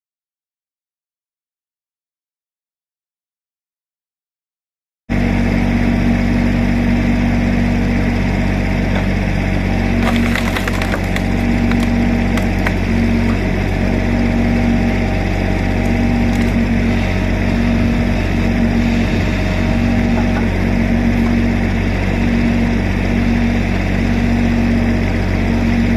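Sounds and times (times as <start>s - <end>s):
excavator diesel engine running: 5.1s - 25.9s.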